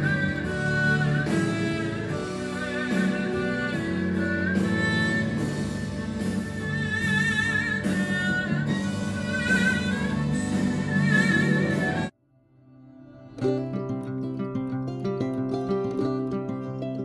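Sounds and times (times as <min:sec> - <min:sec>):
bowed two-string fiddle melody: 0:00.0 - 0:12.1, 0:13.4 - 0:17.0.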